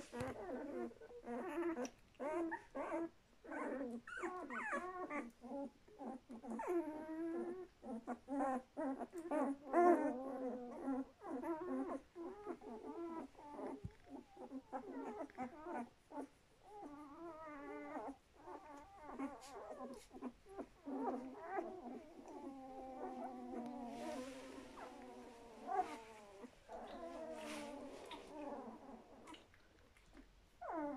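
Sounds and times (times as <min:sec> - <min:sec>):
puppies whimpering and squeaking: 0:00.0 - 0:30.9.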